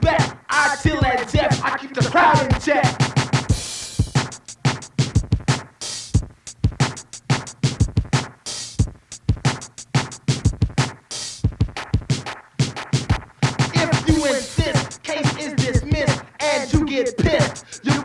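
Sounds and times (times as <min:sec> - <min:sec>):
drum machine beat: 0:00.0 - 0:18.0.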